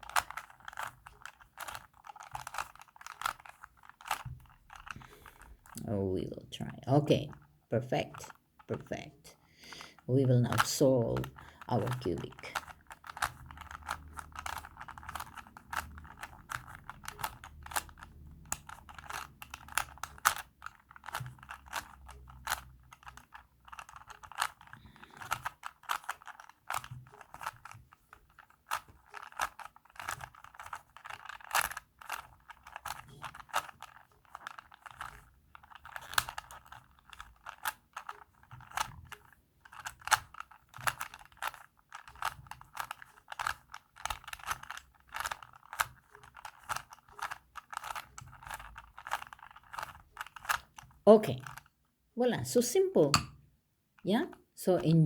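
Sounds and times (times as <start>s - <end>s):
plastic puzzle cube clicking: 0.0s - 51.8s.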